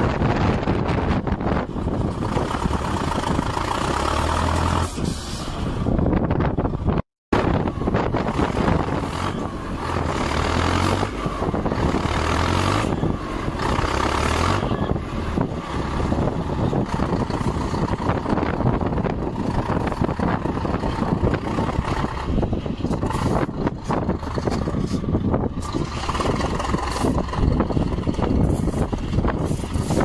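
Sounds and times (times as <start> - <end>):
diesel engines under load: 0.0 - 30.0.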